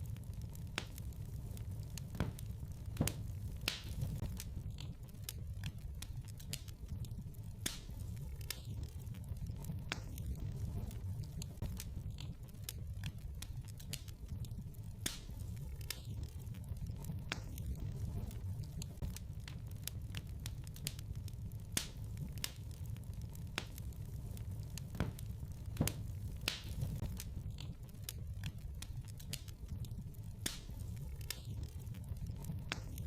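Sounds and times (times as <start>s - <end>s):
fire crackles and pops: 0.0s - 33.0s
low rumble of flames: 0.0s - 33.0s.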